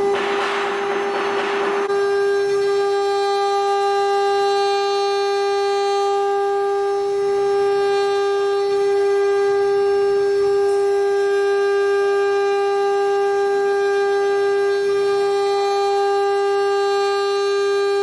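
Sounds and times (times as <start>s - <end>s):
router spindle high-pitched whine: 0.0s - 18.0s.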